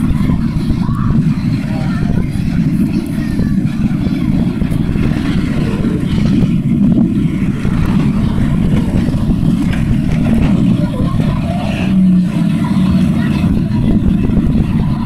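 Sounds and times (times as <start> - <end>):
bus engines rumbling: 0.0 - 15.0.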